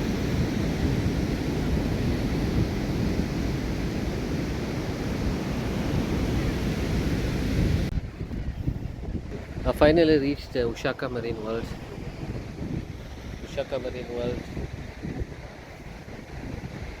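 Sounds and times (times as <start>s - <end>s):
ocean surf on beach: 0.0s - 17.0s
wind buffeting microphone: 0.0s - 17.0s.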